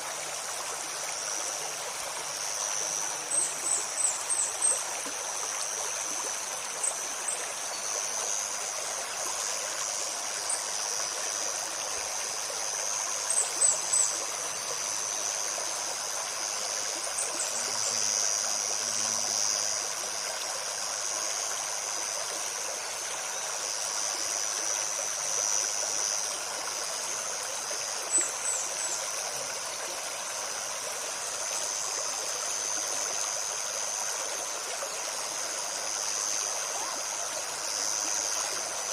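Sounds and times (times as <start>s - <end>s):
forest stream trickling: 0.0s - 38.9s
high insect drone: 0.0s - 38.9s.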